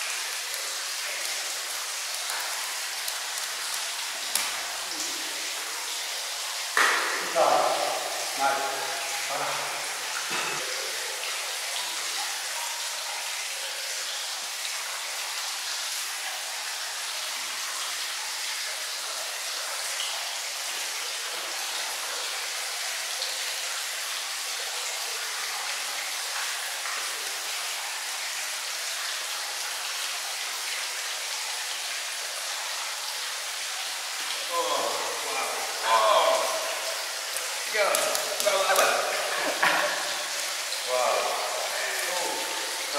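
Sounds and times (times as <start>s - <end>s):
running splashing water: 0.0s - 42.9s.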